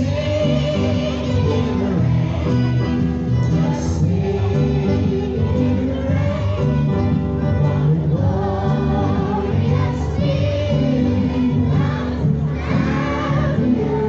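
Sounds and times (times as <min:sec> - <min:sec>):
musical accompaniment with bass: 0:00.0 - 0:14.0
person singing with vibrato: 0:00.0 - 0:14.0.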